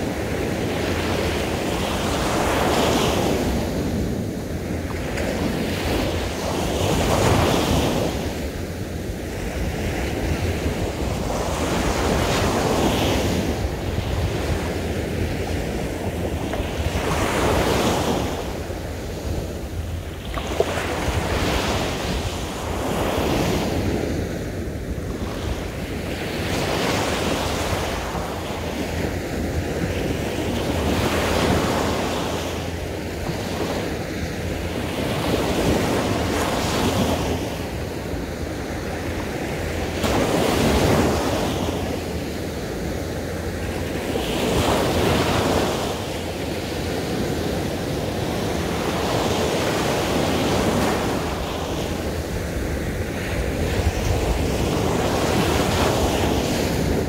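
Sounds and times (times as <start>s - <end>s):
waves breaking on a beach: 0.0s - 57.0s
wind rumble on microphone: 0.0s - 57.0s.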